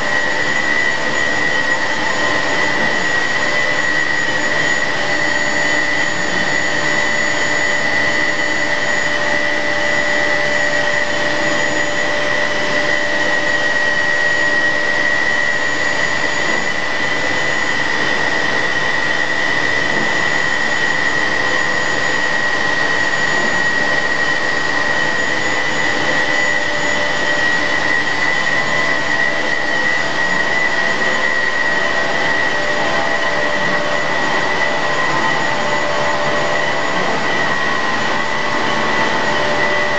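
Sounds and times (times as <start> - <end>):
high-pitched whine: 0.0 - 39.9
machinery drone: 0.0 - 39.9.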